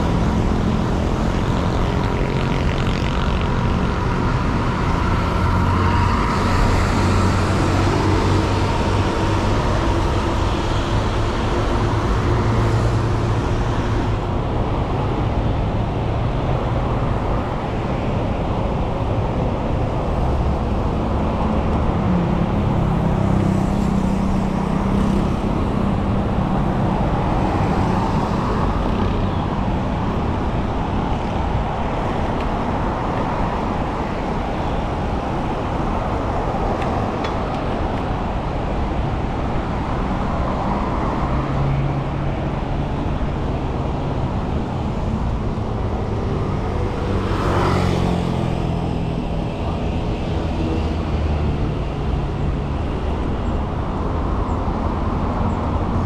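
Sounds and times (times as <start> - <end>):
city road traffic: 0.0 - 56.0.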